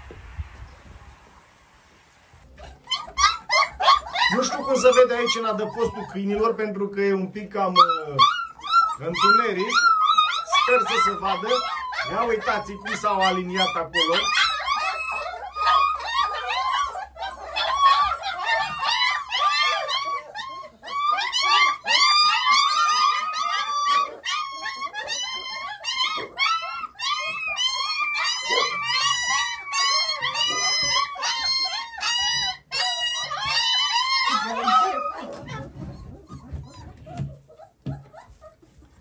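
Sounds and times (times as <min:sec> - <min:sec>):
puppies whining and squealing: 0:02.4 - 0:39.0.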